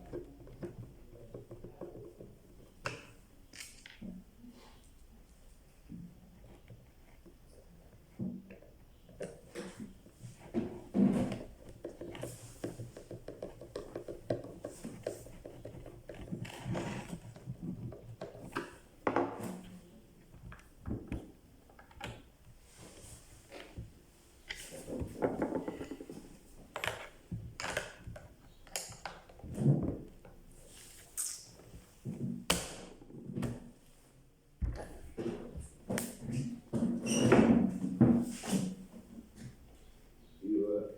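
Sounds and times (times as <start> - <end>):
objects being handled: 0.0 - 40.0.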